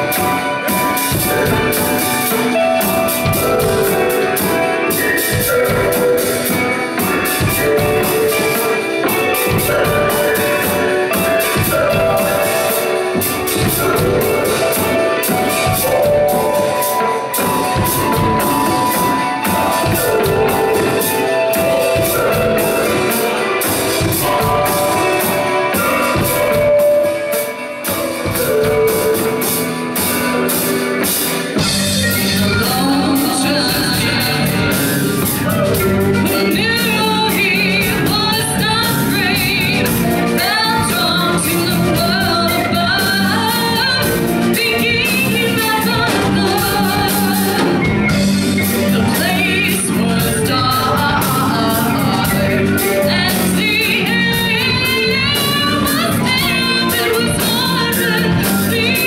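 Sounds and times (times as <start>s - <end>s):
live rock band playing: 0.0s - 59.0s
person singing with vibrato: 0.0s - 59.0s.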